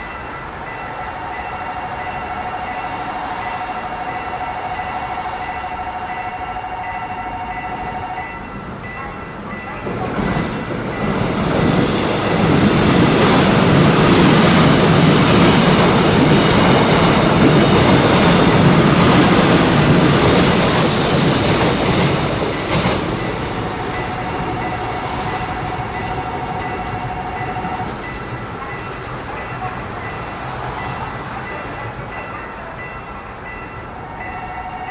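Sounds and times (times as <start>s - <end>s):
crossing warning tone: 0.0s - 34.9s
train rumble and wheel clatter: 0.0s - 34.9s.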